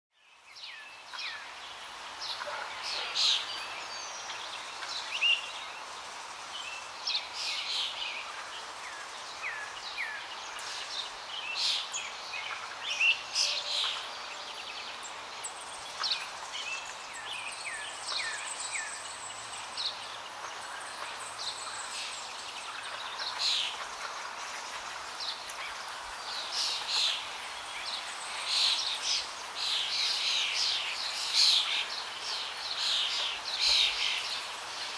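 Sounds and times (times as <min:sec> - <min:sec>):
small birds chirping: 0:00.1 - 0:34.9
background hiss: 0:00.2 - 0:34.9.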